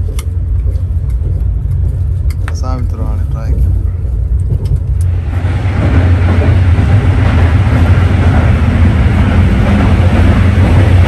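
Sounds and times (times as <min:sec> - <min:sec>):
low train rumble: 0:00.0 - 0:11.0
rushing wheel and track noise: 0:00.0 - 0:11.0.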